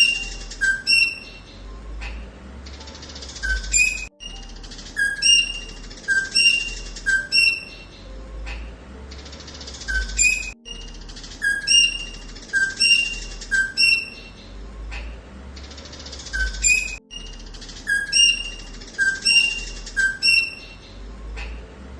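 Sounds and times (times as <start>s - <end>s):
bird chirping: 0.0s - 21.9s.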